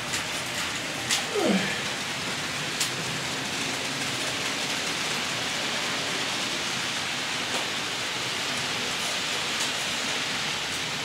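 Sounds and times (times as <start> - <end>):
model trains running: 0.0 - 11.0.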